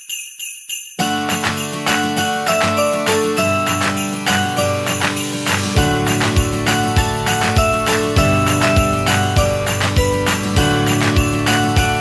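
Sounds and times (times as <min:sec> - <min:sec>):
festive music with sleigh bells: 0:00.0 - 0:12.0.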